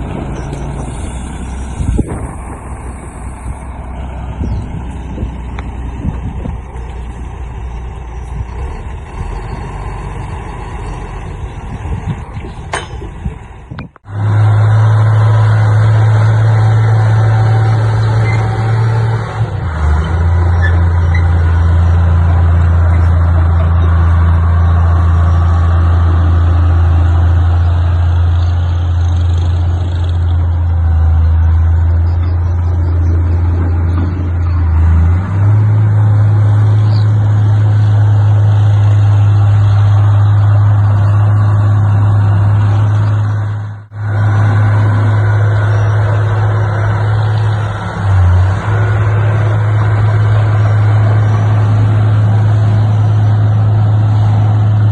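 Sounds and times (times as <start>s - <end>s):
diesel machinery engine running: 0.0s - 54.9s.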